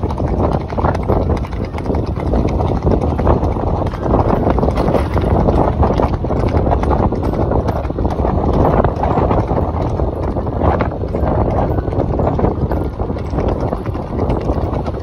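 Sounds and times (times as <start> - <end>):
bicycle rattling and knocking: 0.0 - 15.0
wind rushing over microphone: 0.0 - 15.0.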